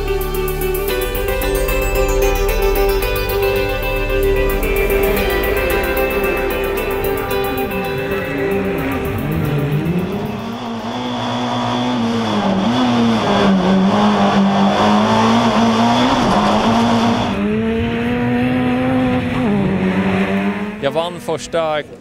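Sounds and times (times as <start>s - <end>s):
race car engine at high revs: 0.0s - 22.0s.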